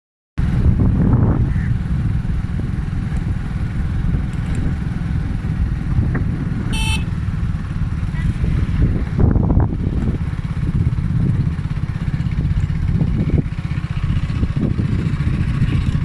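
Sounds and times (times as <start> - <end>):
vehicle rumble: 0.4 - 16.0
wind buffeting microphone: 0.4 - 16.0.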